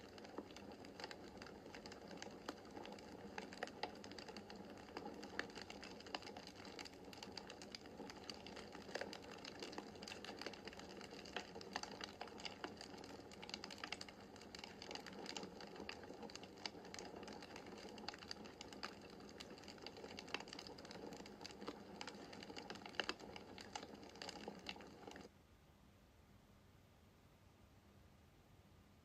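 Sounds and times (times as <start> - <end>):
fire popping: 0.0 - 25.3
wood fire crackling: 0.0 - 25.3.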